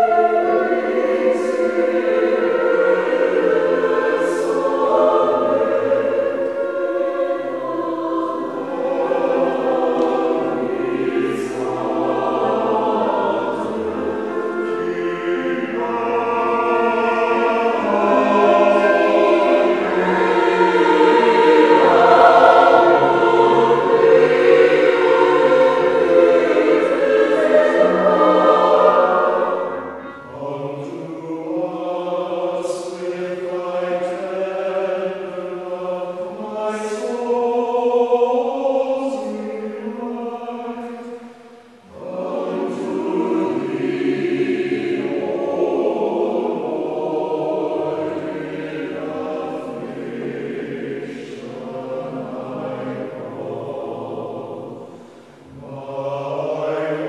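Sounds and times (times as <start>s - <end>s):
mixed chorus singing: 0.0s - 57.0s.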